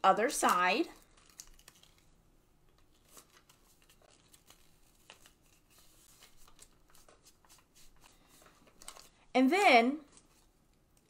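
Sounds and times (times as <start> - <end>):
tape crinkling and rustling: 0.2 - 9.3, 10.0 - 11.0.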